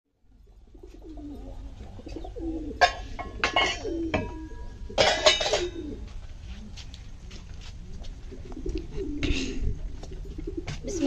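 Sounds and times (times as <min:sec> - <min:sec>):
doves cooing: 0:00.3 - 0:06.4, 0:07.8 - 0:11.0.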